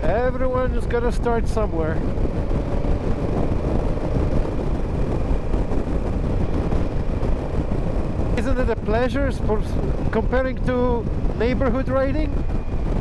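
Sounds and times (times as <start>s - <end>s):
motorcycle engine: 0.0s - 13.0s
road noise: 0.0s - 13.0s
wind rush on microphone: 0.0s - 13.0s.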